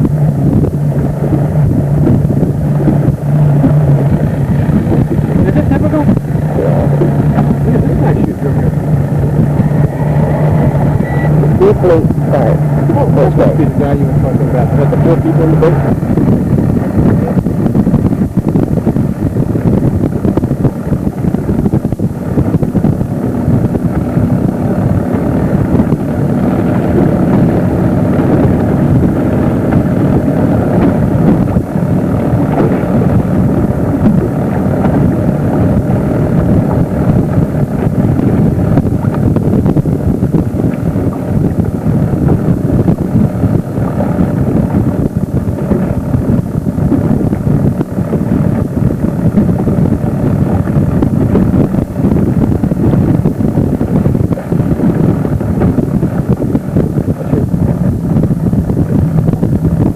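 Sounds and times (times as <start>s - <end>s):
motorboat engine running: 0.0s - 59.9s
wind buffeting microphone: 0.0s - 59.9s.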